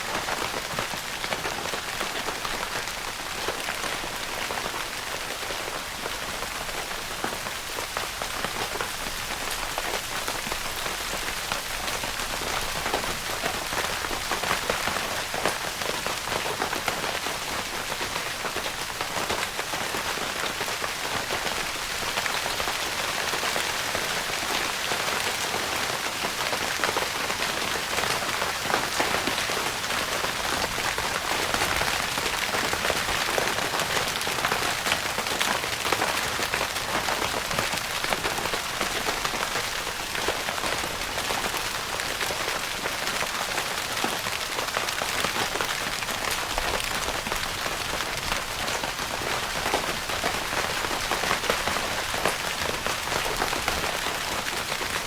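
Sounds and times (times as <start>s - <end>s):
rain pattering on tent fabric: 0.0s - 55.0s.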